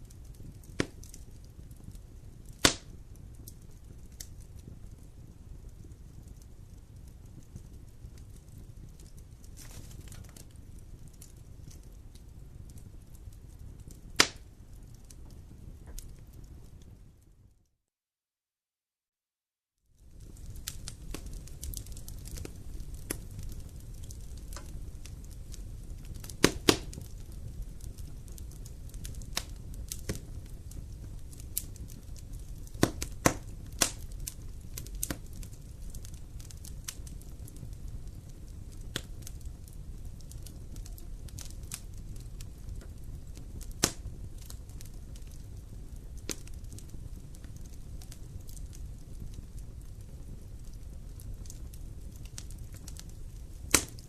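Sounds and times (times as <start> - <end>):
fire crackling and popping: 0.0 - 17.6, 19.8 - 54.0
low rumble of campfire flames: 0.0 - 17.7, 19.8 - 54.0.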